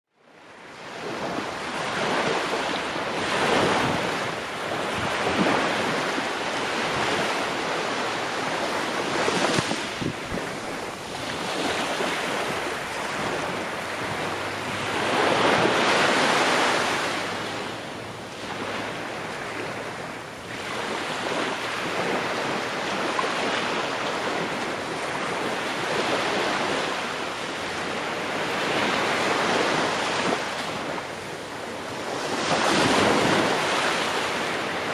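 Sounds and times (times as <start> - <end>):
ocean waves breaking on shore: 0.2 - 34.9.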